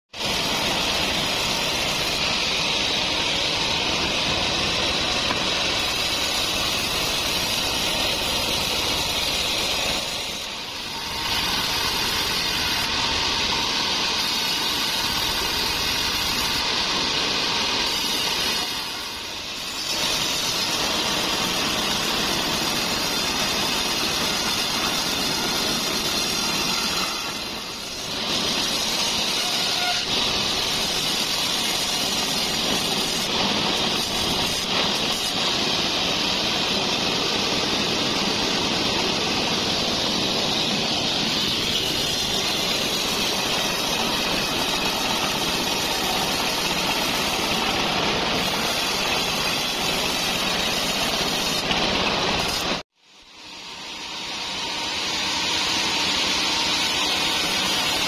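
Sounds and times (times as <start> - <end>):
band saw cutting wood: 0.1 - 52.8, 53.5 - 58.0.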